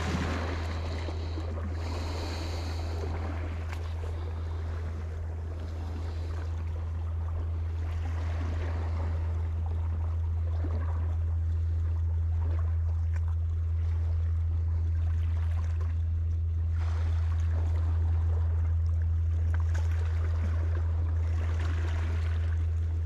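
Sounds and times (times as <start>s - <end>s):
steady low rumble: 0.0s - 23.0s
water lapping against rocks: 0.0s - 23.0s.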